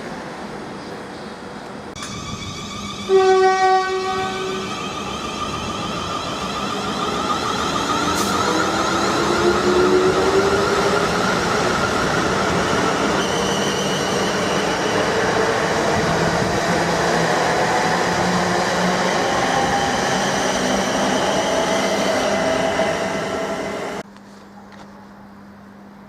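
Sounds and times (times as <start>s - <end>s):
train passing with rumble: 0.0s - 24.0s.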